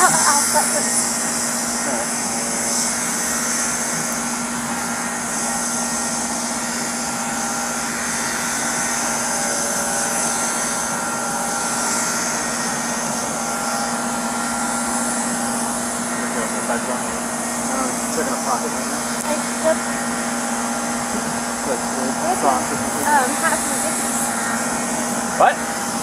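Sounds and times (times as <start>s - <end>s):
mechanical drone with hum and hiss: 0.0s - 26.0s.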